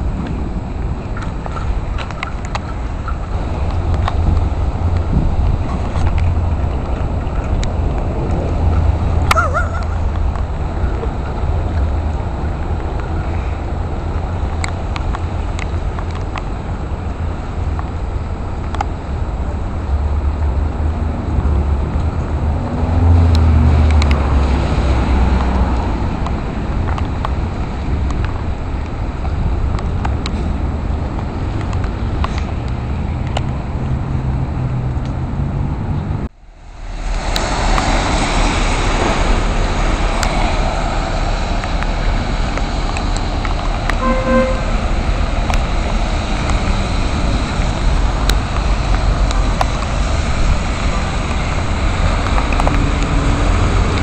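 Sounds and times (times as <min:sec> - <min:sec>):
rain on wet street: 0:00.0 - 0:35.3, 0:36.3 - 0:54.0
traffic: 0:00.0 - 0:54.0
wind rumble on microphone: 0:00.0 - 0:54.0.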